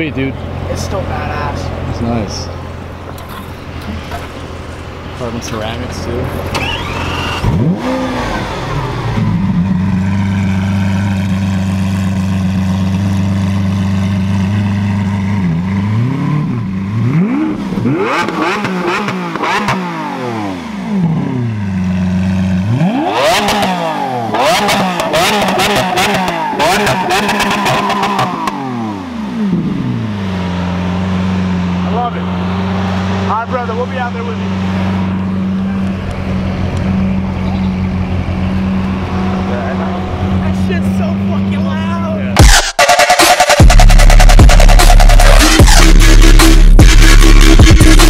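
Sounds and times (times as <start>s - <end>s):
car engine idling and revving: 0.0s - 48.0s
exhaust cracks: 0.0s - 48.0s.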